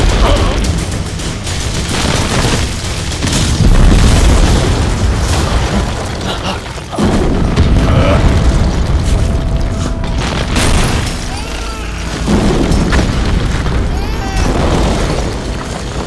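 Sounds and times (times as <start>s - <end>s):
dramatic film music: 0.0s - 4.0s, 5.9s - 16.0s
deep booms and rumble: 0.0s - 16.0s.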